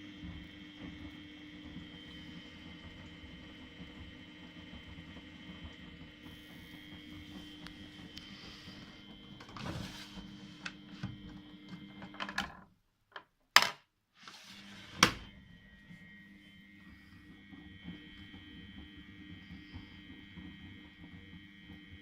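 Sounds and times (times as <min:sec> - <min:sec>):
washing machine motor hum: 0:00.0 - 0:12.8, 0:13.6 - 0:22.0.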